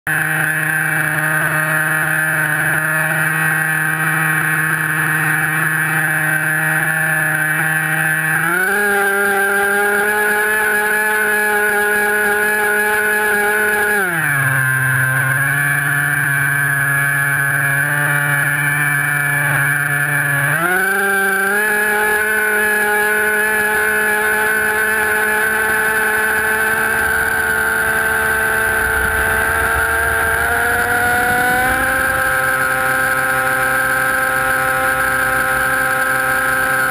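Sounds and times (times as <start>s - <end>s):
model aircraft motors humming: 0.1s - 36.9s.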